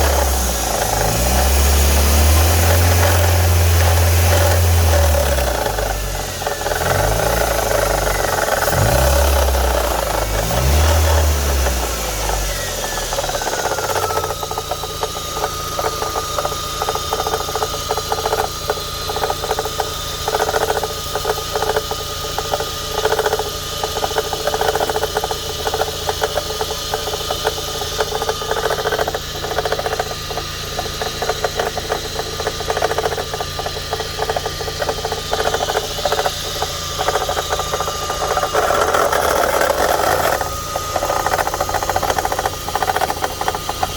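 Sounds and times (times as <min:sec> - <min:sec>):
car engine idling: 0:00.0 - 0:43.9
rapid knocking rattle: 0:00.0 - 0:43.9.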